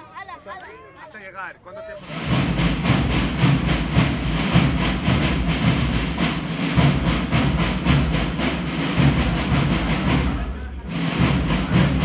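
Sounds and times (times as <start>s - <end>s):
fast steady drum beat: 2.0s - 12.0s.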